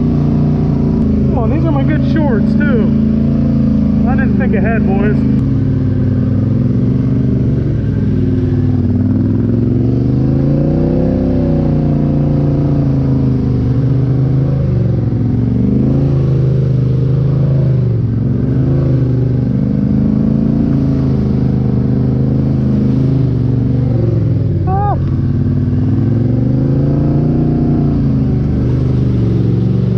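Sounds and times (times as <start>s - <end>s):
atv engine revving: 0.0s - 29.9s.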